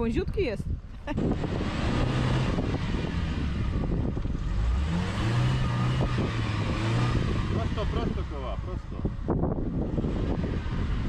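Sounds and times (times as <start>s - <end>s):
engine running at low revs: 0.8s - 11.0s.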